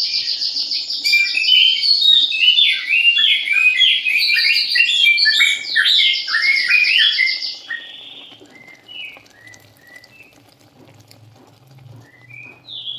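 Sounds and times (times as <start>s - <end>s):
birds chirping: 0.1s - 10.4s, 11.3s - 12.9s.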